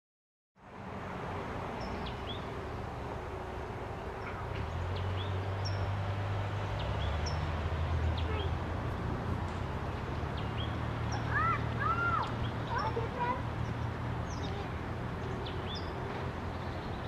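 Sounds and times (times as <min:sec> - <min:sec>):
small birds chirping: 0:01.8 - 0:02.8, 0:03.9 - 0:17.0.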